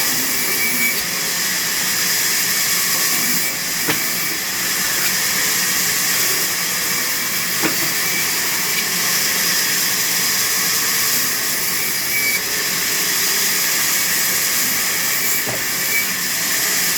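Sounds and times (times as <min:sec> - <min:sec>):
sawmill saw running: 0:00.0 - 0:16.9.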